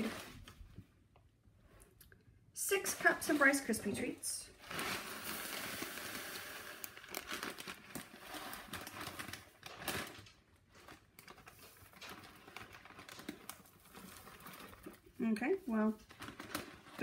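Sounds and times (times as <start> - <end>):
dry cereal rustling: 0.0 - 0.7, 2.8 - 17.0
plastic bag crinkling: 0.0 - 0.8, 2.8 - 17.0.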